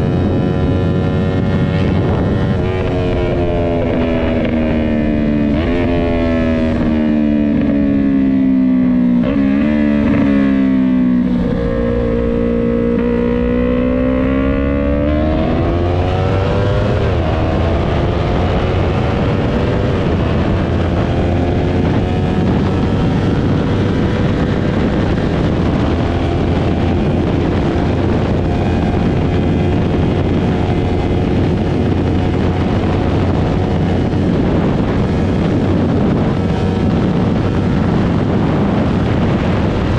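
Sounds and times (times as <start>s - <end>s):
loud rushing wind noise: 0.0s - 39.9s
motorcycle engine accelerating: 0.0s - 39.9s.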